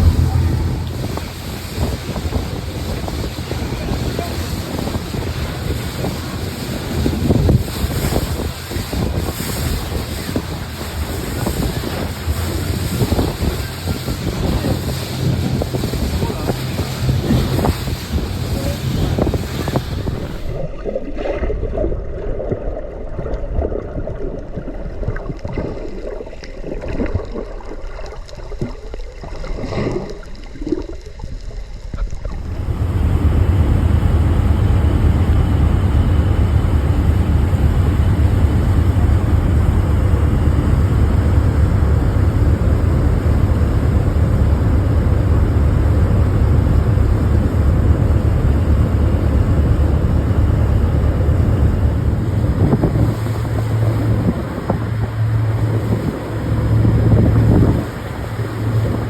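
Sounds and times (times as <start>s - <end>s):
wind noise: 0.0s - 20.7s, 32.0s - 59.0s
motorboat engine rumble: 0.0s - 59.0s
water noise: 0.0s - 59.0s.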